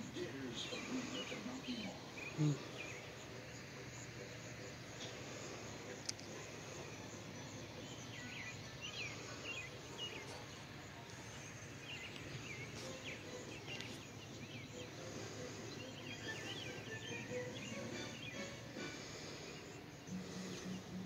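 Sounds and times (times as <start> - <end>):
small birds chirping: 0.0 - 21.0
steady outdoor hiss: 0.0 - 21.0.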